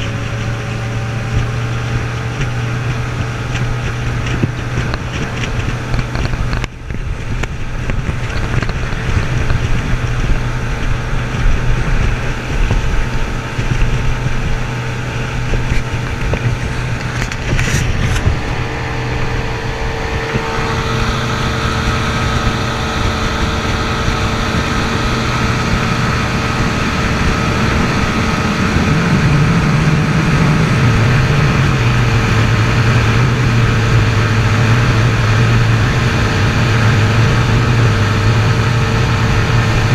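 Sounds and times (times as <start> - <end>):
outboard motor running at speed: 0.0 - 39.9
wind rumbling on microphone: 0.0 - 39.9.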